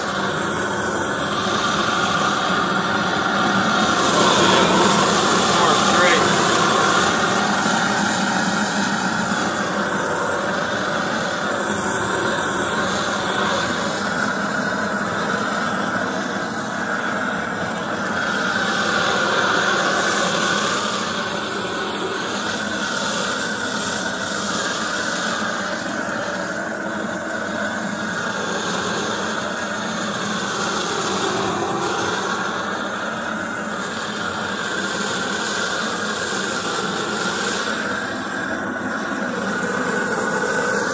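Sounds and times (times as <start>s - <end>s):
gas torch flame hissing: 0.0s - 40.9s.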